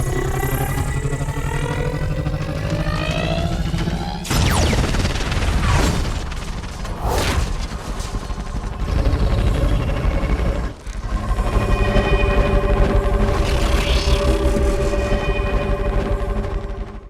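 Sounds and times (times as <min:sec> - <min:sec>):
heavy low rumble: 0:01.8 - 0:17.0.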